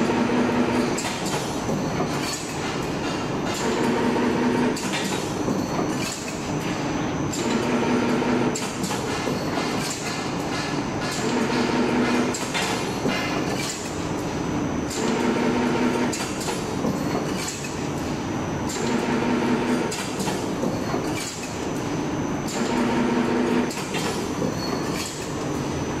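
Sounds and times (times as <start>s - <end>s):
sharp machine clicks and clacks: 0.0s - 6.7s, 7.3s - 14.3s, 14.9s - 18.0s, 18.6s - 21.8s, 22.4s - 25.7s.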